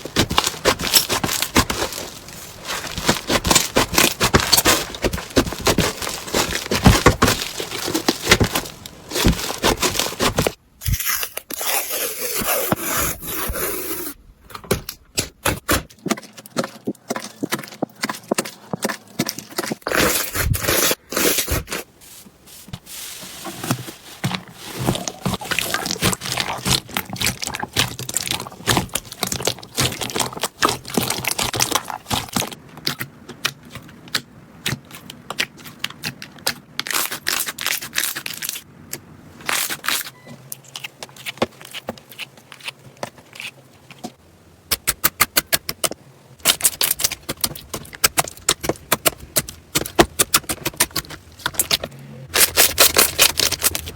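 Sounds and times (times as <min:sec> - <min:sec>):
slime scraping: 0:00.0 - 0:14.2, 0:15.9 - 0:38.6, 0:44.8 - 0:53.9.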